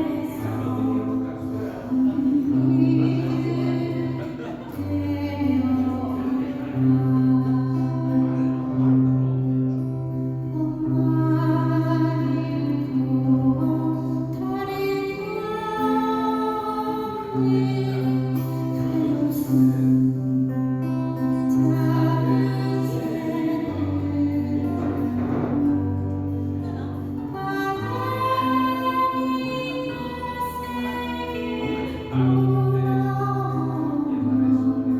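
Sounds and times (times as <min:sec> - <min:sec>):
person singing a slow ballad: 0:00.0 - 0:34.9.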